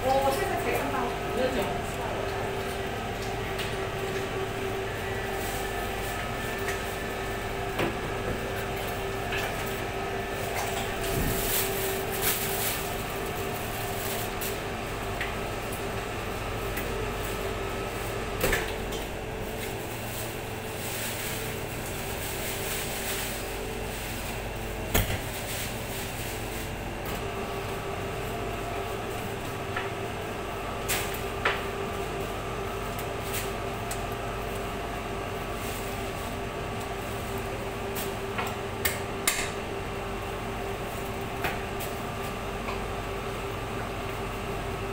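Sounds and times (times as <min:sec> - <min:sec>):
steady machine hum: 0:00.0 - 0:44.9.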